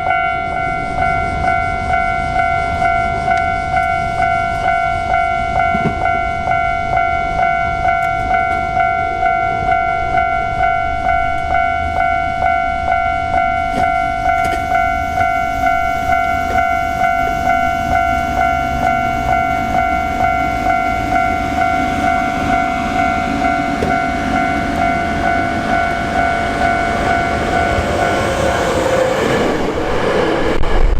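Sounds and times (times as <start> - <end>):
level-crossing warning bell: 0.0 - 29.8
electric train rumbling: 0.0 - 30.9.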